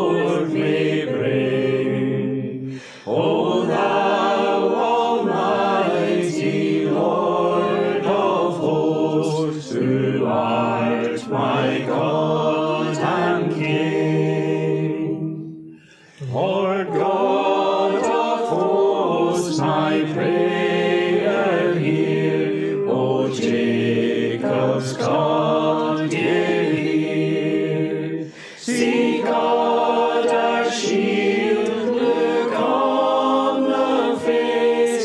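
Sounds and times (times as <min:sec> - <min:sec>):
congregation singing unaccompanied: 0:00.0 - 0:35.0.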